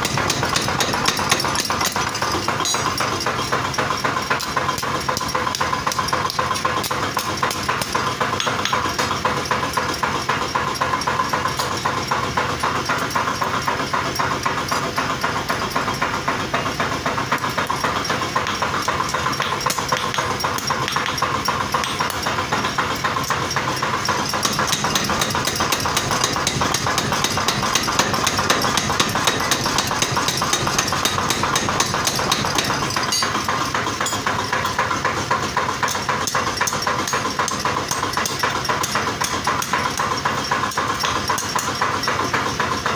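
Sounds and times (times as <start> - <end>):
power hammer pounding steel: 0.0 - 42.9.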